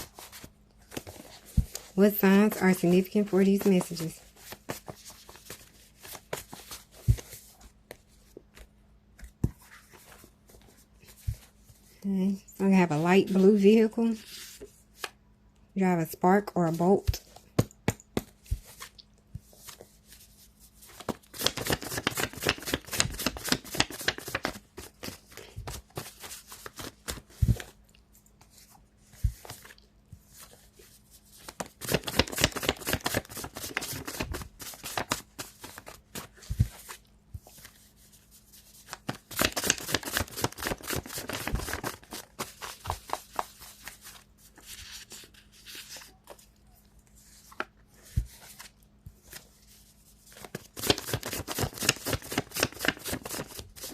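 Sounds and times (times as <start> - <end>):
cards being shuffled: 0.0 - 10.3, 17.0 - 30.7, 31.3 - 38.0, 38.6 - 46.5, 47.2 - 53.9.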